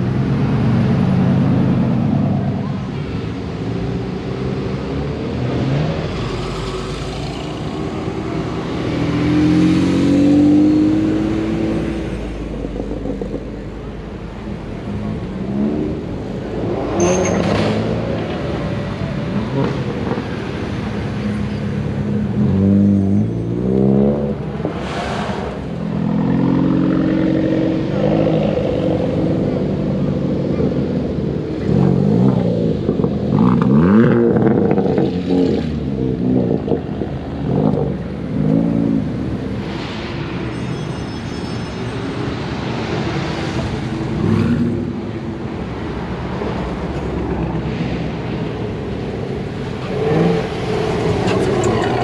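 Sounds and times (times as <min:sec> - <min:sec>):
car engines revving: 0:00.0 - 0:40.8, 0:41.9 - 0:52.0.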